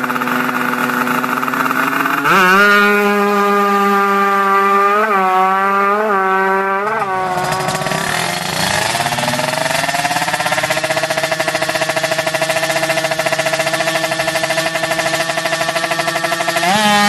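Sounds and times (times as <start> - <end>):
lower pulsing motorcycle engine: 0.0 - 17.0
motorcycle engine revving high: 0.0 - 17.0.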